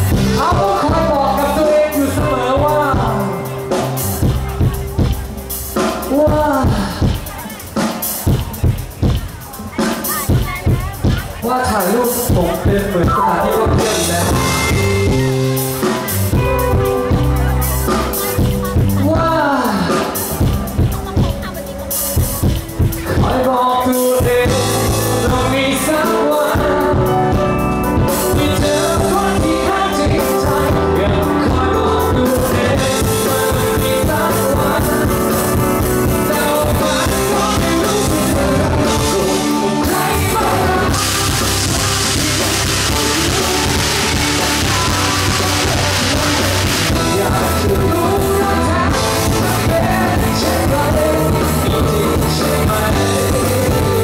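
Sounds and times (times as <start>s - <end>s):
lead singer singing: 0.0s - 54.0s
live pop-rock band playing: 0.0s - 54.0s.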